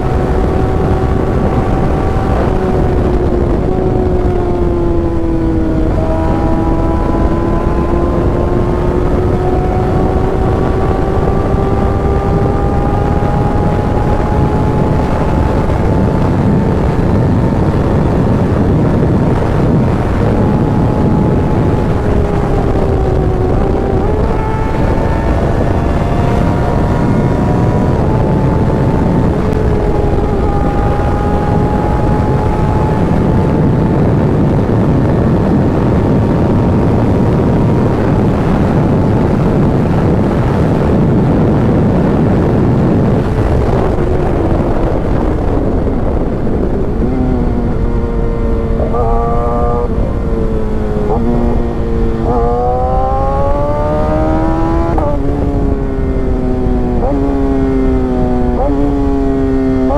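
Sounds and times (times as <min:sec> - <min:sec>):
motorcycle engine running: 0:00.0 - 0:59.9
wind rushing: 0:00.0 - 0:59.9.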